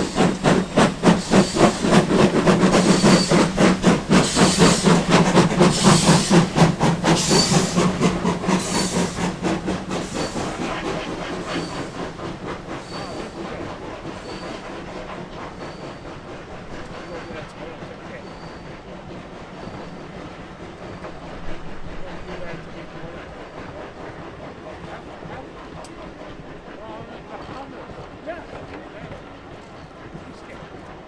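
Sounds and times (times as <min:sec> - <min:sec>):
steam locomotive exhaust beats: 0:00.0 - 0:31.0.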